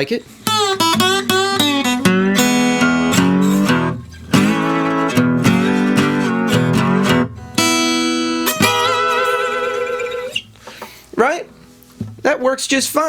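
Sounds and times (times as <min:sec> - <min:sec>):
slide acoustic guitar: 0:00.0 - 0:12.2.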